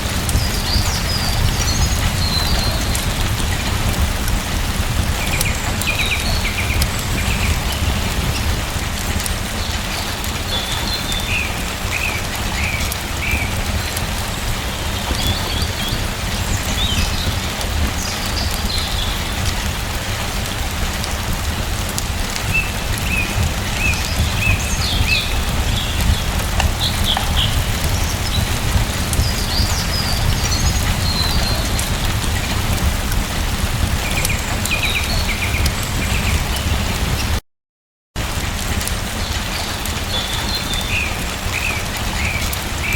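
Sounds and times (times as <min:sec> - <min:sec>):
rain falling: 0:00.0 - 0:37.4, 0:38.2 - 0:42.9.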